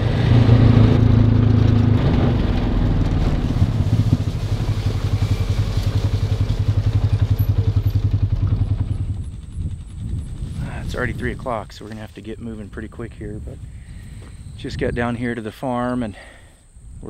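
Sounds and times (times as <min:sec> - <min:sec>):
vehicle engine running: 0:00.0 - 0:14.3.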